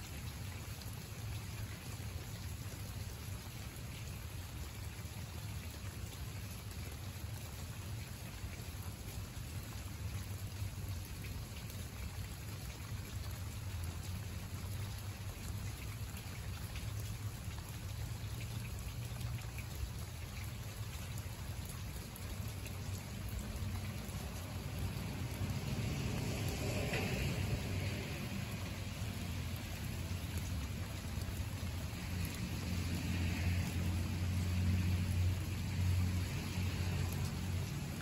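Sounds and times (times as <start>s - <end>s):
rain falling on leaves and pavement: 0.0s - 38.0s.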